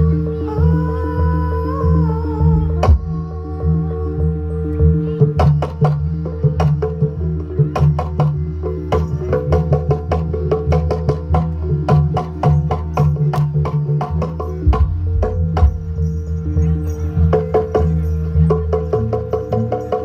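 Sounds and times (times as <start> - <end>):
held low tones: 0.0 - 20.0
gamelan percussion strikes: 2.2 - 20.0.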